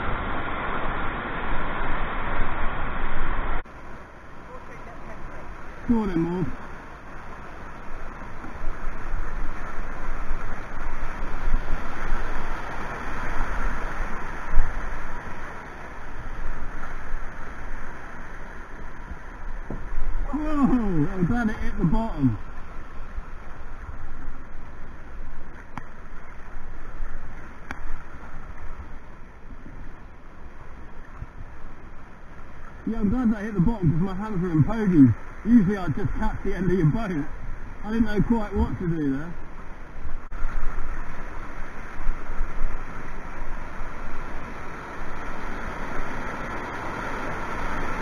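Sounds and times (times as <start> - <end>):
rushing whitewater: 0.0 - 48.0.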